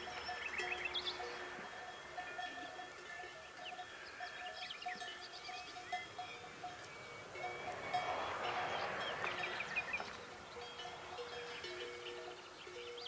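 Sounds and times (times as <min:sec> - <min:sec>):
livestock bells clanking: 0:00.0 - 0:13.0.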